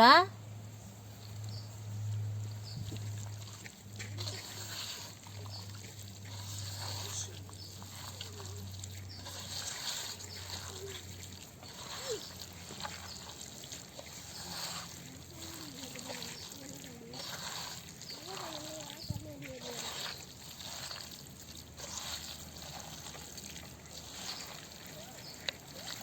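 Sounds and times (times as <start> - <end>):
hands squishing wet meat: 2.2 - 26.0.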